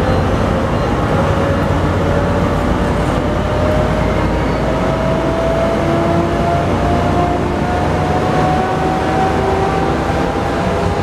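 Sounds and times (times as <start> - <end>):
diesel locomotive engine running: 0.0 - 11.0.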